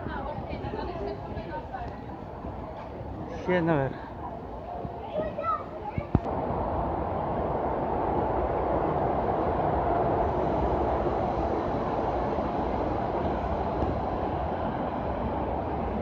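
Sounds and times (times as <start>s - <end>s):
rumbling din of station hall: 0.0s - 16.0s.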